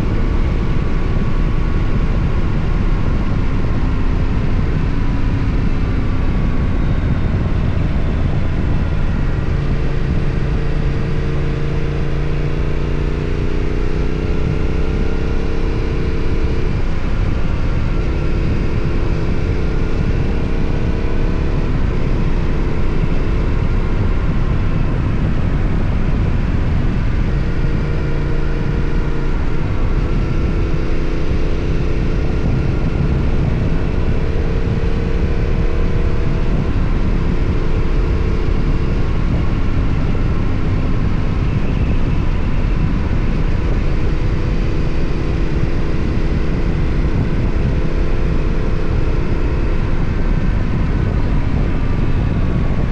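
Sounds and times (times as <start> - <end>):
motorcycle engine revving: 0.0 - 52.9
wind and road noise: 0.0 - 52.9.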